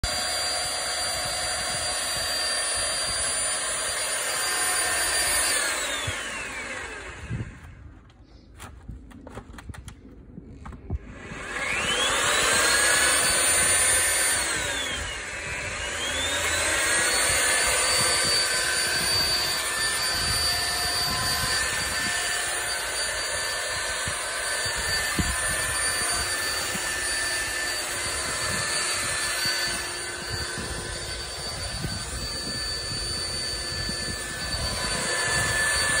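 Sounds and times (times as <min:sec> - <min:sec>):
electric motor whining: 0:00.0 - 0:08.4, 0:10.6 - 0:36.0.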